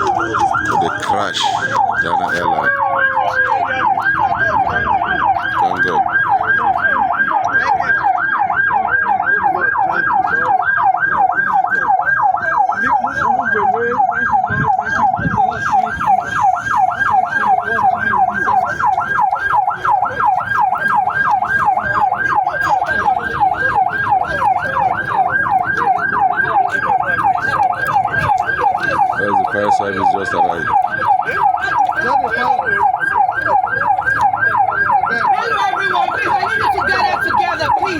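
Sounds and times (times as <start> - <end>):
siren yelping: 0.0 - 37.9.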